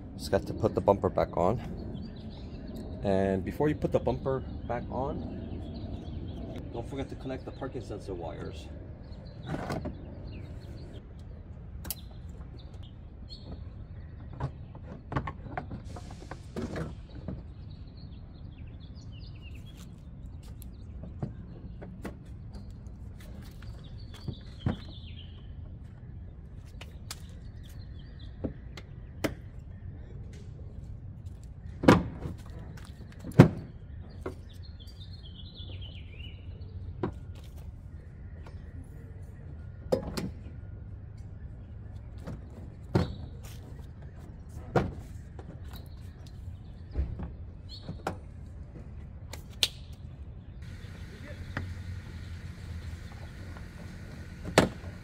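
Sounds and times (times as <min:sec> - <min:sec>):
birds chirping: 0:00.0 - 0:15.9, 0:16.9 - 0:49.0, 0:49.8 - 0:55.0.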